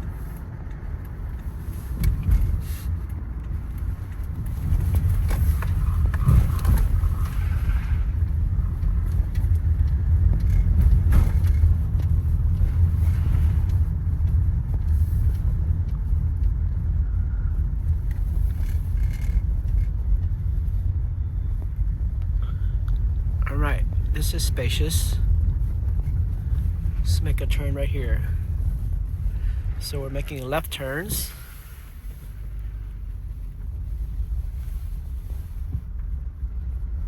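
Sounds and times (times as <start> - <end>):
engine and road rumble: 0.0 - 37.0.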